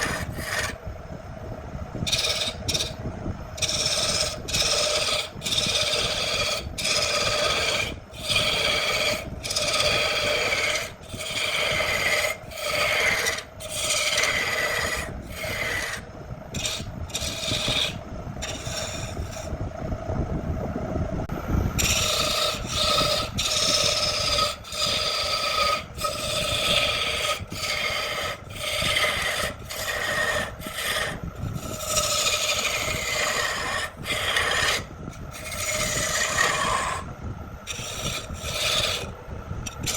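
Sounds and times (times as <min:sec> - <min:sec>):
abrasive tool rasping wood: 0:00.0 - 0:00.8, 0:02.1 - 0:03.0, 0:03.6 - 0:19.6, 0:21.8 - 0:39.9
steady hum: 0:00.0 - 0:39.9.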